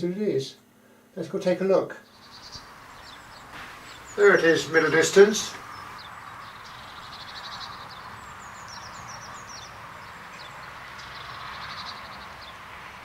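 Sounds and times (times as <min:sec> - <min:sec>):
low background hiss: 0:00.0 - 0:12.8
songbirds trilling and chirping: 0:02.0 - 0:13.0.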